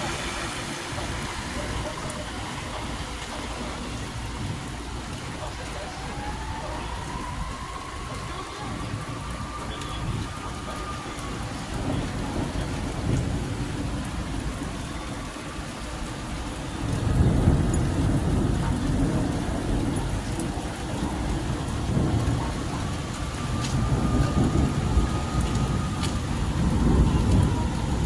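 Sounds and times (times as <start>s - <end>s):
rain on wet pavement: 0.0s - 28.0s
thunder rumbling: 0.0s - 28.0s.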